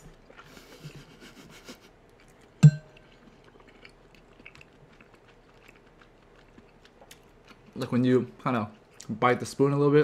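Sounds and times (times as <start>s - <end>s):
chewing: 0.0s - 1.0s, 1.6s - 9.2s.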